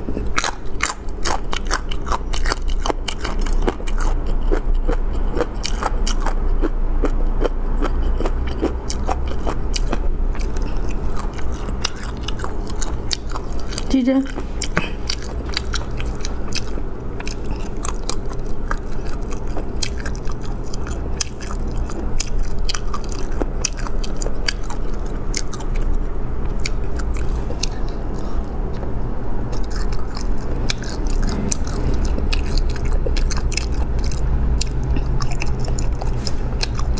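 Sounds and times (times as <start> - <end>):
close chewing and biting: 0.0 - 36.9
steady low hum: 0.0 - 36.9.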